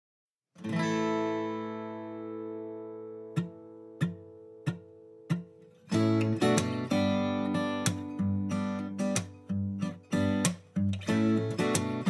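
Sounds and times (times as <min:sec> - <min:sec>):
acoustic guitar music: 0:00.6 - 0:12.0.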